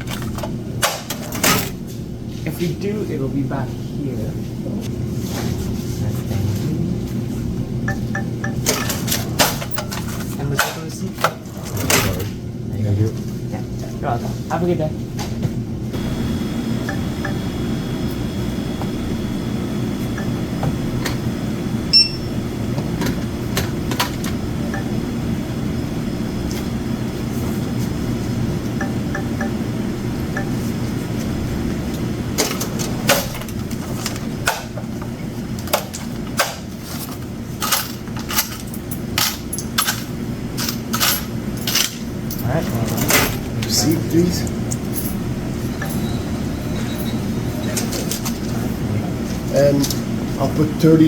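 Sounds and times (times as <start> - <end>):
low mechanical hum: 0.0 - 51.0.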